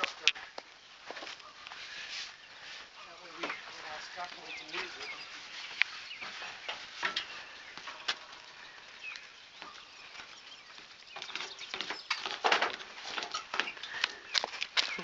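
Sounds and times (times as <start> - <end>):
footsteps crunching on ground: 0.0 - 15.0.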